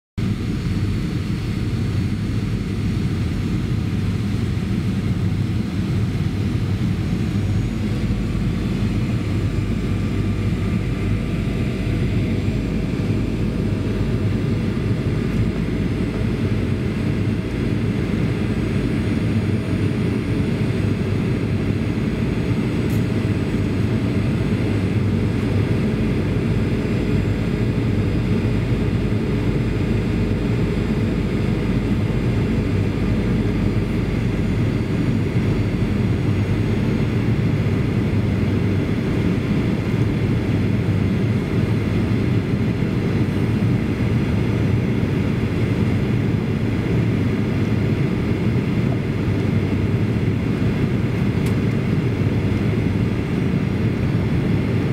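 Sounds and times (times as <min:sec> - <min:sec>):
airliner cabin rumble: 0:00.2 - 0:54.9
faint steady whine: 0:00.2 - 0:54.9.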